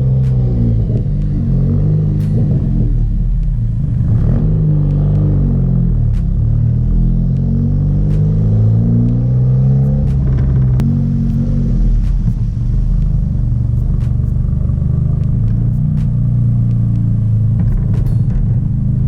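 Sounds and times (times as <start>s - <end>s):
car engine and loud exhaust: 0.0s - 19.0s.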